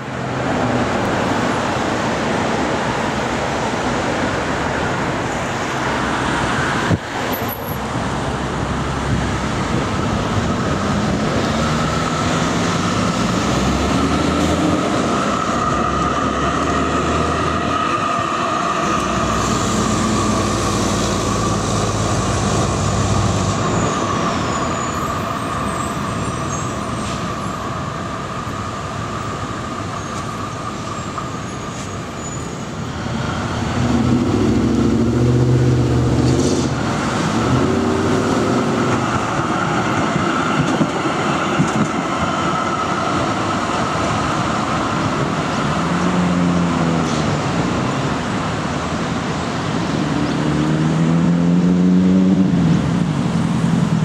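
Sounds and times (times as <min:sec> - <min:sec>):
electric tram running on tracks: 0:00.0 - 0:54.0
street traffic: 0:00.0 - 0:54.0.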